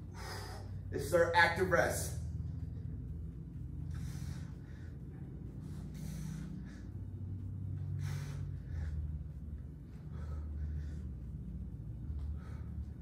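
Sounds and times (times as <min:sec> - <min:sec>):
man breathing hard: 0:00.0 - 0:01.3, 0:01.9 - 0:13.0.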